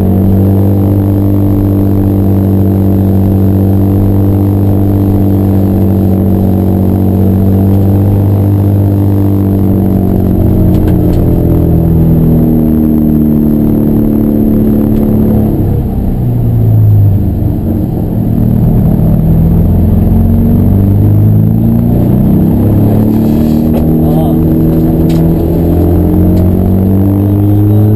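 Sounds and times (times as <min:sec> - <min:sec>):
racing car engine revving: 0:00.0 - 0:27.9.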